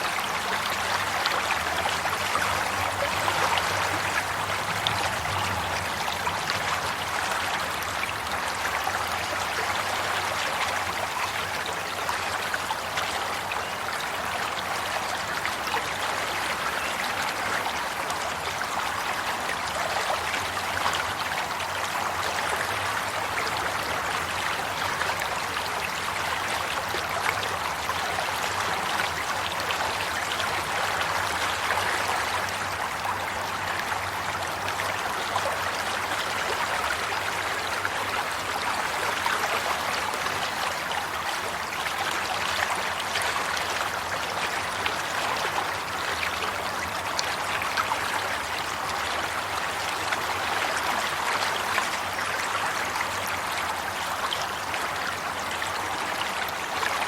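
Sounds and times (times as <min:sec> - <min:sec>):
running water babbling: 0:00.0 - 0:57.0.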